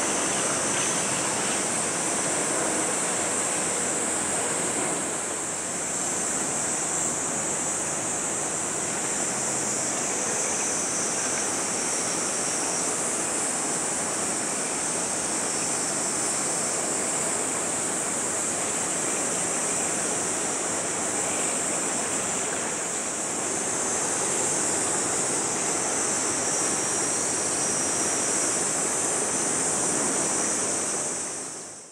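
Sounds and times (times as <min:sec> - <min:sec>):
high-pitched hiss: 0:00.0 - 0:31.9
wind: 0:00.0 - 0:31.9.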